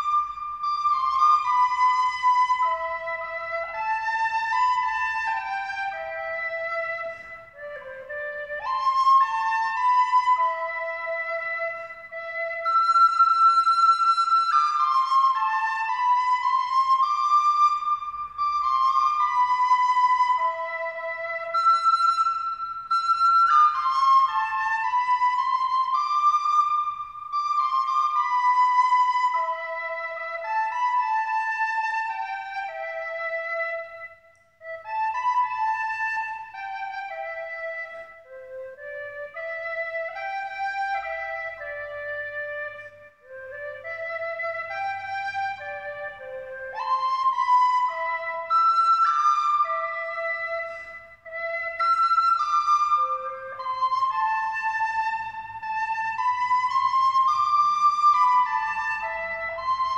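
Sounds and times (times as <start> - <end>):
flute-like slow melody: 0.0 - 59.9.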